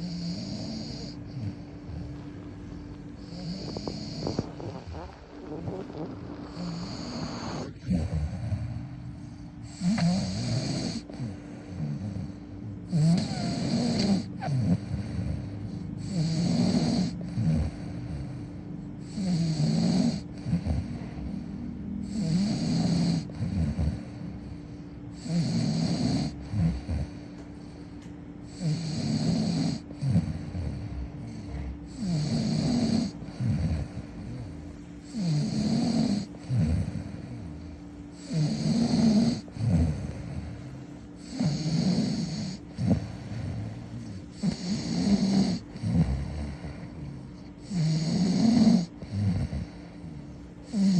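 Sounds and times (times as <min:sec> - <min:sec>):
rough rattling snore: 0:00.0 - 0:21.4, 0:22.0 - 0:24.5, 0:25.1 - 0:50.9.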